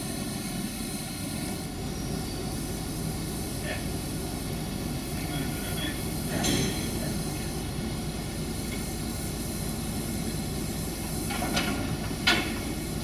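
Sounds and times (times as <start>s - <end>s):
steam locomotive rumble and hiss: 0.0s - 13.0s.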